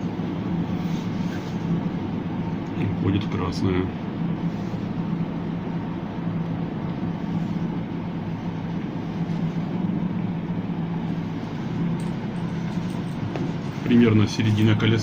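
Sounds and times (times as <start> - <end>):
ferris wheel mechanical hum: 0.0 - 15.0.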